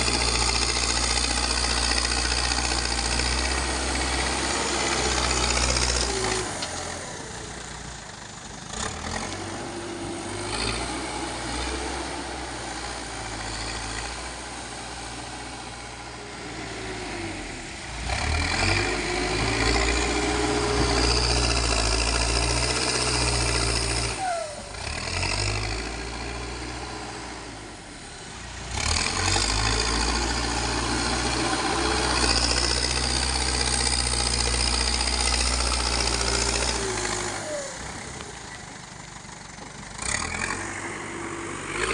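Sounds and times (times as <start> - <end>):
backhoe diesel engine revving: 0.0 - 41.9.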